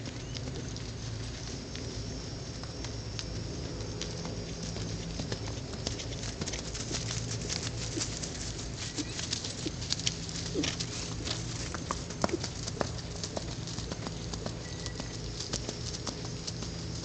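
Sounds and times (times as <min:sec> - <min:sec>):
horse hoofbeats on grass: 0:00.0 - 0:17.0
steady low hum: 0:00.0 - 0:17.0.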